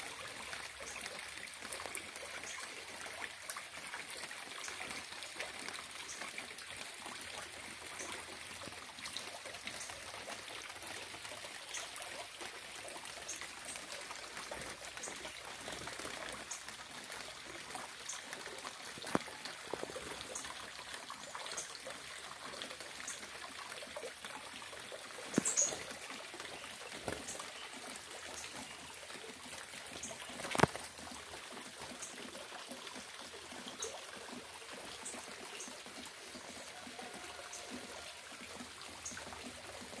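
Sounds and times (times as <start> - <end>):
water trickling and dripping: 0.0 - 40.0.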